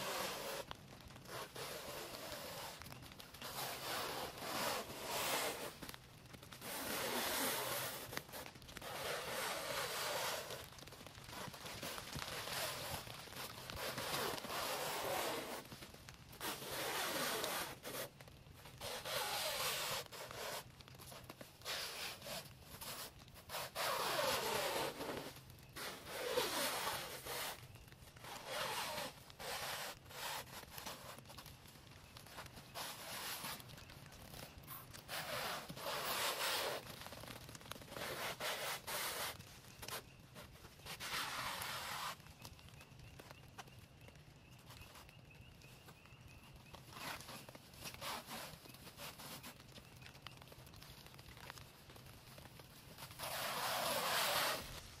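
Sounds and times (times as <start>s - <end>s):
plastic stretch wrap pulled off roll: 0.0s - 55.0s.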